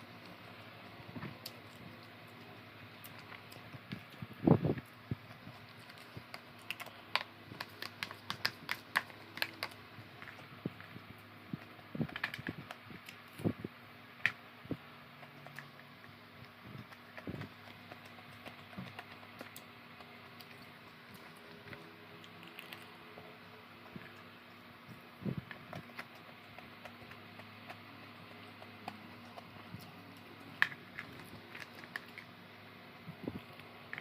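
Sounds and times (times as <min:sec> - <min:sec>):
electric fan humming: 0:00.0 - 0:34.0.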